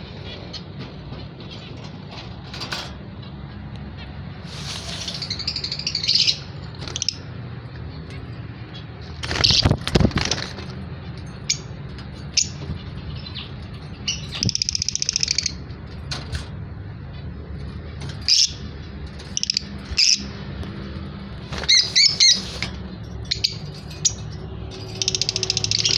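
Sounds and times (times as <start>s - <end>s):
birds chirping: 0.0s - 25.9s
buzzy bird chatter: 0.0s - 25.9s.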